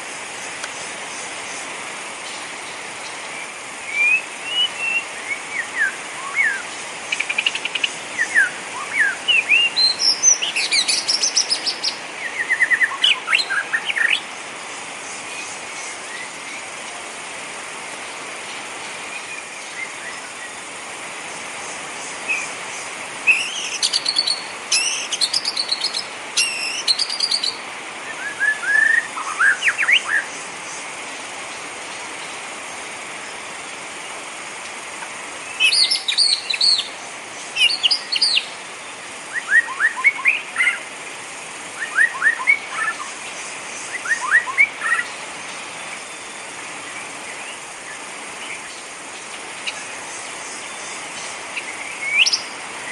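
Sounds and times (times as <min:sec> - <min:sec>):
rain hiss: 0:00.0 - 0:52.9
songbirds chirping: 0:00.0 - 0:52.9.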